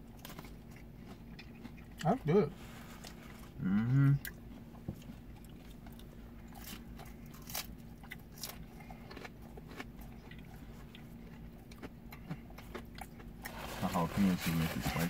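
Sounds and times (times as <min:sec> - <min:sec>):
crunchy pizza chewing: 0:00.0 - 0:15.0.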